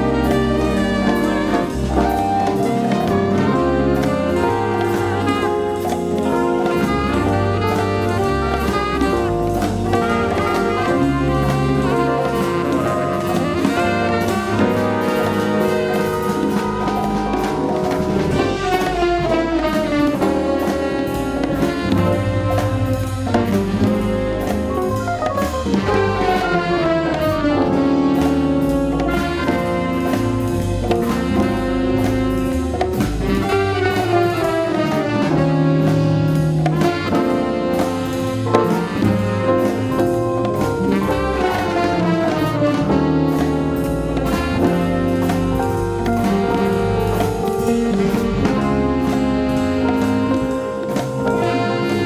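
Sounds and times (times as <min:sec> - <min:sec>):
jazz band playing: 0:00.0 - 0:52.0
saxophone: 0:00.0 - 0:52.0.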